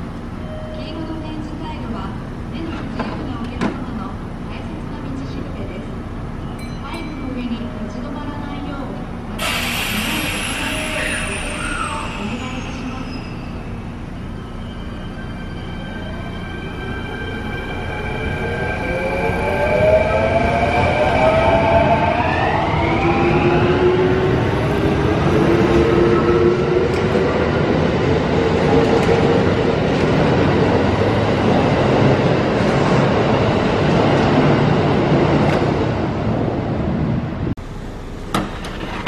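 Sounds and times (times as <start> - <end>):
train car rumble: 0.0 - 39.0.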